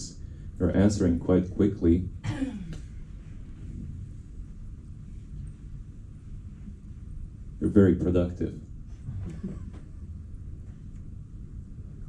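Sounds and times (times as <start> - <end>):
low room tone rumble: 0.0 - 12.0.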